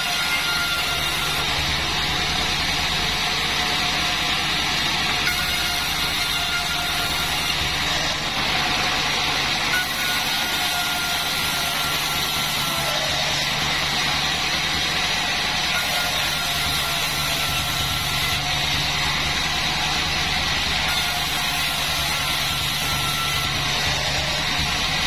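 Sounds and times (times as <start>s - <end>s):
band saw blade hiss and whine: 0.0s - 25.0s
sawmill motor humming: 0.0s - 25.0s.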